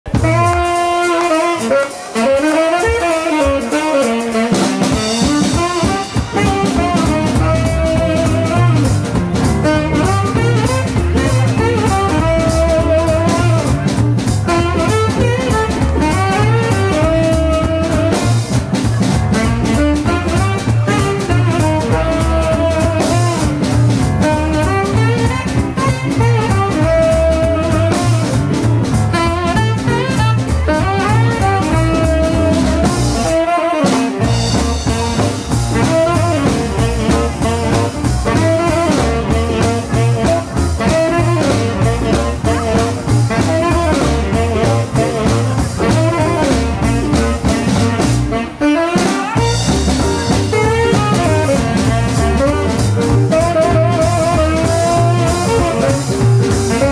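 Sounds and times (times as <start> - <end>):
bass: 0.0 - 56.9
drums: 0.0 - 56.9
guitar: 0.0 - 56.9
baritone saxophone melody: 0.1 - 56.9.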